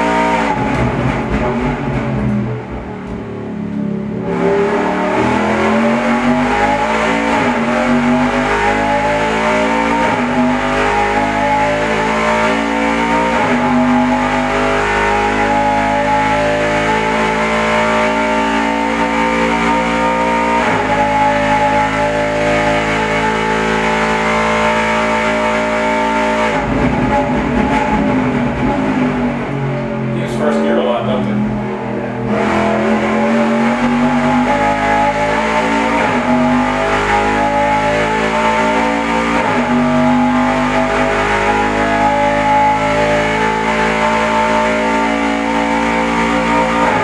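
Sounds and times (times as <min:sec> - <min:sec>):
racing engine at full throttle: 0:00.0 - 0:47.0.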